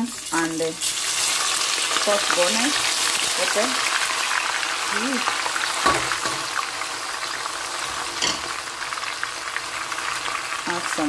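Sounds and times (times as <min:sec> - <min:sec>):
onions and bones sizzling in oil: 0:00.0 - 0:11.0.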